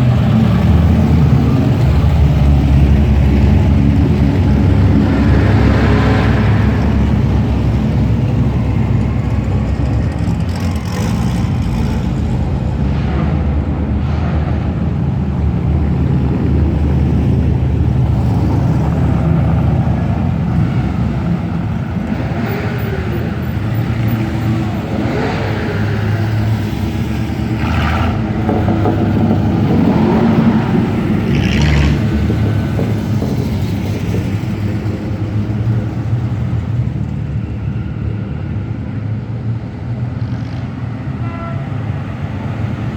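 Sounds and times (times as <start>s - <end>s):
car engines rumbling past: 0.0s - 42.9s.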